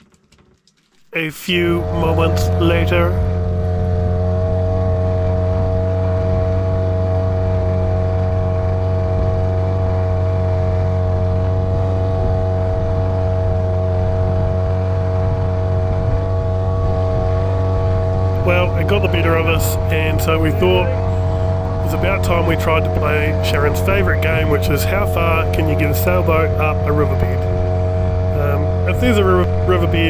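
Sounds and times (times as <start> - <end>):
outboard motor droning: 1.2 - 30.0.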